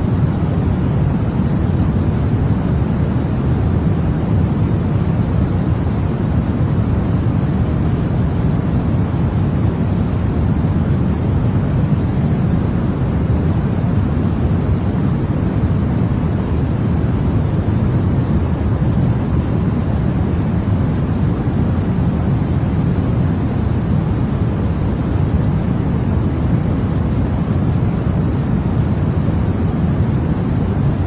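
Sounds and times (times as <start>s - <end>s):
white noise rush: 0.0s - 31.0s.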